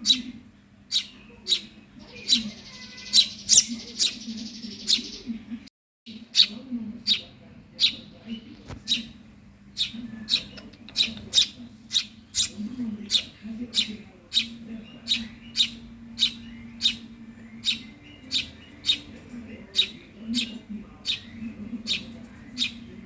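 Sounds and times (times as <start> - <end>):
sparrow chick begging chirps: 0.0 - 5.3, 6.2 - 8.0, 8.7 - 9.2, 9.8 - 23.0.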